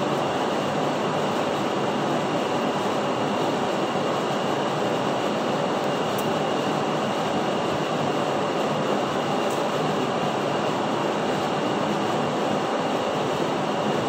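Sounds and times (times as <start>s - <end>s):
loud steady rushing noise: 0.0s - 14.0s.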